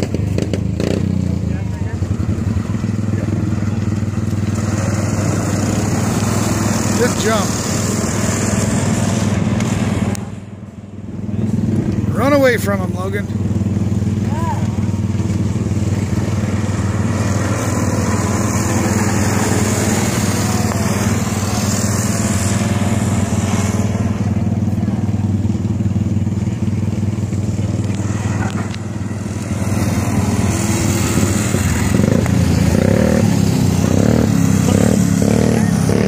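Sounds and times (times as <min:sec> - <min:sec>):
racing car engines droning: 0:00.0 - 0:36.0.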